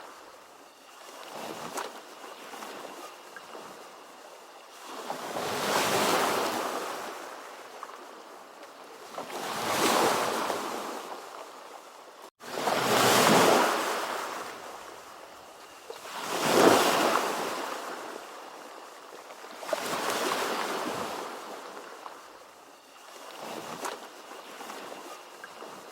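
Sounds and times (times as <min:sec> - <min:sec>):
ocean waves breaking on shore: 0:00.0 - 0:25.9.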